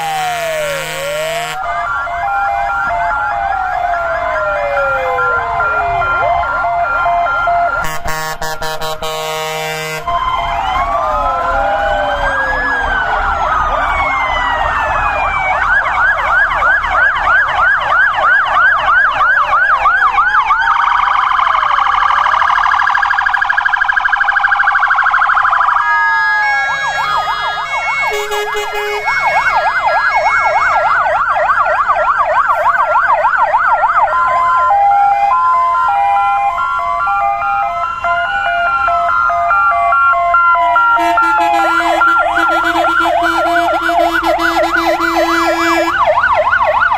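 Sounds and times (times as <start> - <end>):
fire engine sirens wailing: 0.0 - 46.9
sirens yelping: 0.0 - 46.9
two-tone hi-lo siren: 0.0 - 46.9.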